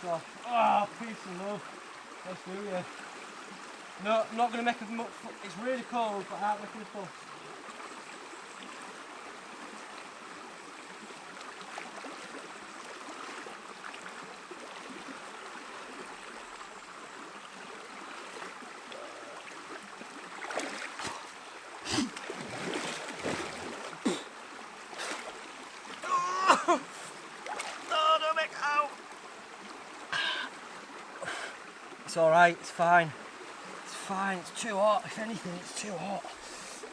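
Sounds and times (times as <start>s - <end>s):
stream water rushing: 0.0s - 36.9s.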